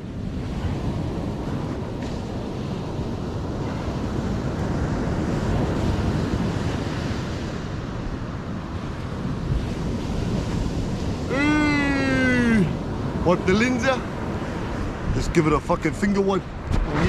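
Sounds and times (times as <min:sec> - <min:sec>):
surf washing on beach: 0:00.0 - 0:17.0
wind rumbling on microphone: 0:00.0 - 0:17.0.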